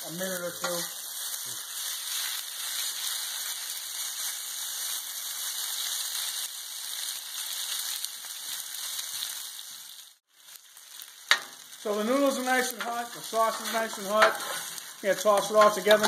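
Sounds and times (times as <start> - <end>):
pasta sizzling on a griddle: 0.0 - 16.0.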